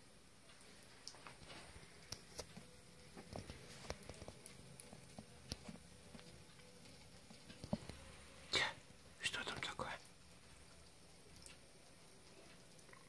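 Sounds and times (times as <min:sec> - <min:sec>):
light taps and clicks in bathtub: 0:00.4 - 0:13.0.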